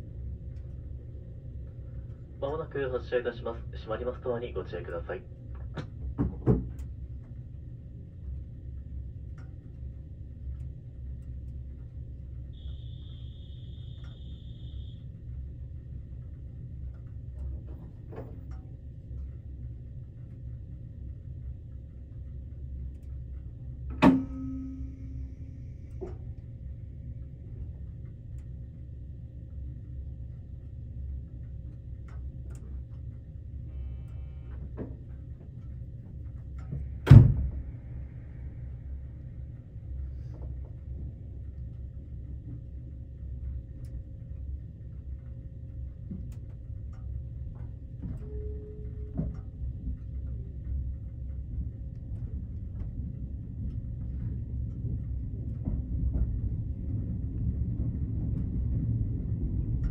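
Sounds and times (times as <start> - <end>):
faint steady hum: 0.0 - 59.9
train carriage low rumble: 0.0 - 59.9.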